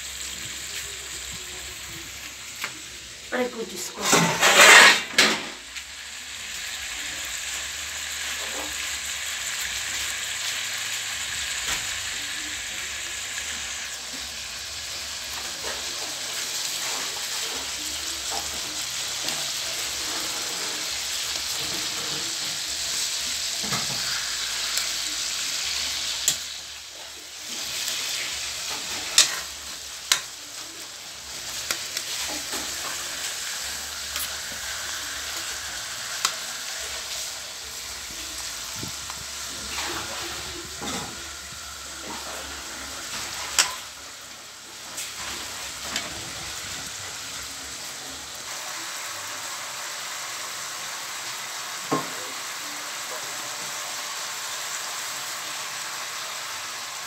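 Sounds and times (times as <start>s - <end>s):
oil sizzling in a wok: 0.0s - 57.0s.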